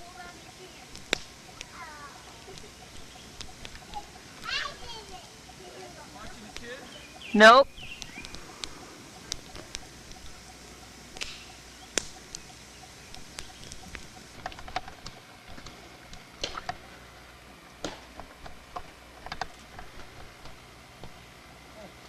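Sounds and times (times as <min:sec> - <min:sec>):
campfire crackling and popping: 0:00.0 - 0:22.0
soft steady fire hiss: 0:00.0 - 0:22.0.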